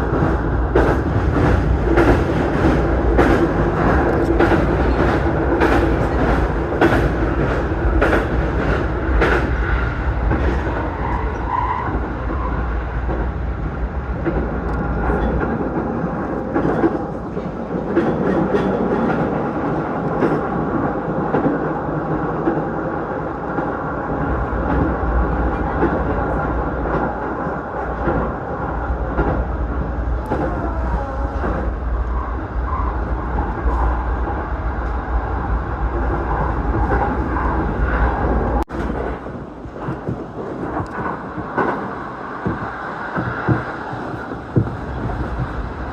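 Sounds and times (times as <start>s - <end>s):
sharp clicks from rails: 0.0s - 10.9s, 14.0s - 30.6s, 35.9s - 45.9s
train wheels rumbling: 0.0s - 45.9s.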